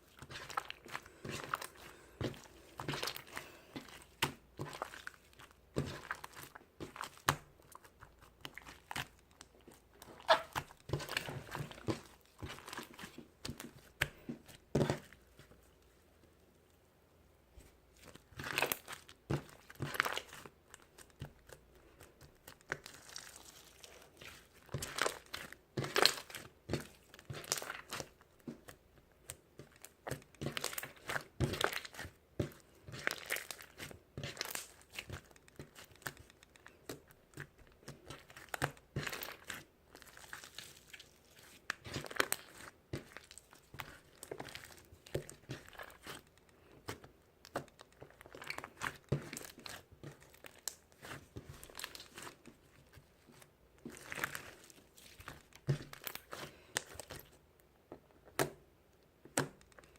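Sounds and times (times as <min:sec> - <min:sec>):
crinkling and rustling: 0:00.0 - 0:16.8, 0:17.5 - 0:59.9.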